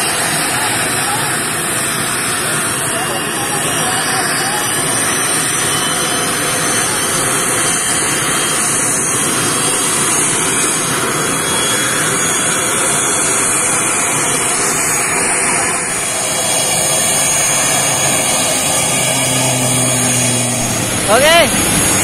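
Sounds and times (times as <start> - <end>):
turboprop engines droning: 0.0 - 22.0.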